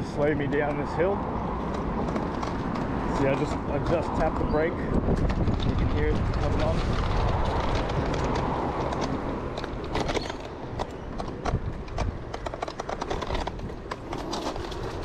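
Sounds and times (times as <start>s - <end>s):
wind and tyre noise: 0.0s - 15.0s
rattling clicks and knocks: 1.6s - 4.3s, 4.9s - 15.0s.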